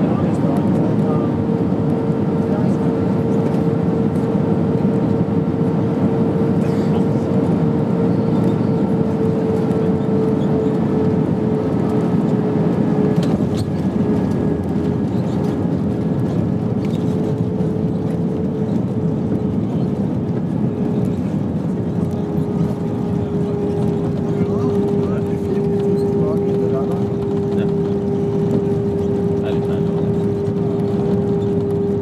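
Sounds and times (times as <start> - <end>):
aircraft engine and airflow noise: 0.0 - 32.0
steady cabin hum: 0.0 - 32.0.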